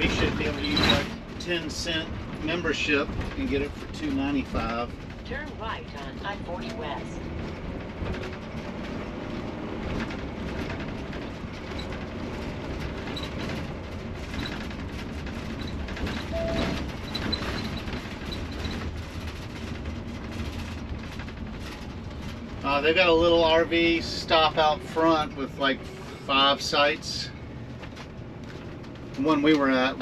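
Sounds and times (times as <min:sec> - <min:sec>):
road and engine noise in cab: 0:00.0 - 0:30.0.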